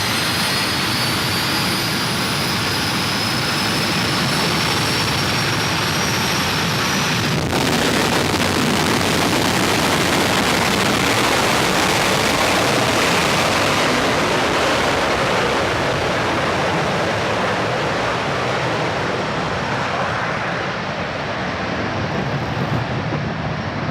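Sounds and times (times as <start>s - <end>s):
jet engine roaring: 0.0s - 23.9s.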